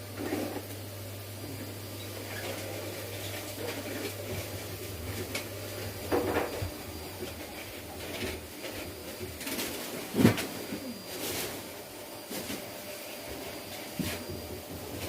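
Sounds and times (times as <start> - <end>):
washing machine drum and motor hum: 0.0 - 15.0.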